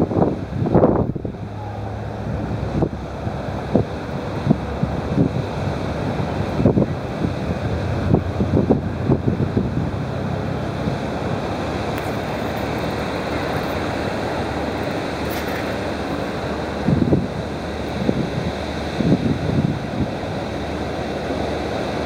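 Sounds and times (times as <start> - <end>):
steady rushing noise: 0.0 - 22.0
wind buffeting microphone: 0.0 - 22.0.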